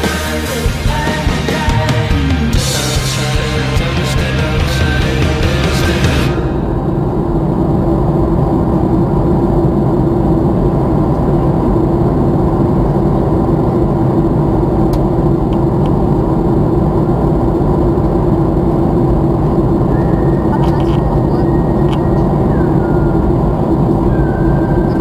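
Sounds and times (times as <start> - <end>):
constant low hum: 0.0 - 25.0
jet airliner cabin rumble: 0.0 - 25.0.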